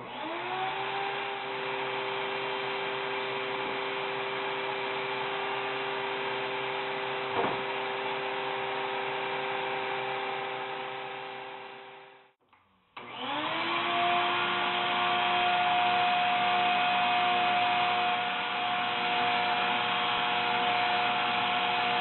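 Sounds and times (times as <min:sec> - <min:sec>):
steady motor: 0:00.0 - 0:12.2, 0:13.0 - 0:22.0
vacuum motor spinning up: 0:00.0 - 0:12.2, 0:13.0 - 0:22.0.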